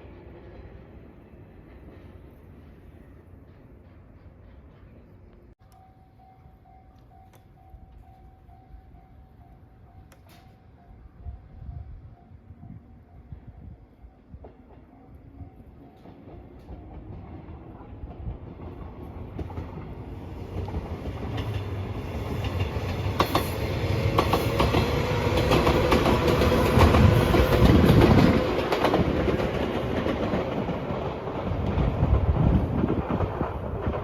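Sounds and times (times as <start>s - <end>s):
passenger train passing: 0.0s - 34.0s.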